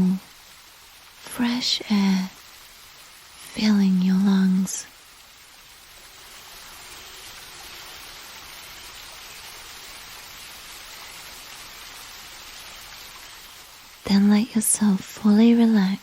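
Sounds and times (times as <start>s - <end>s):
soft hiss of water: 0.0s - 16.0s.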